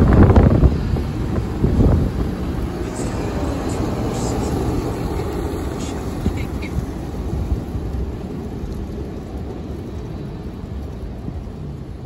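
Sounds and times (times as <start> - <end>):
freight train cars rumbling: 0.0 - 12.0.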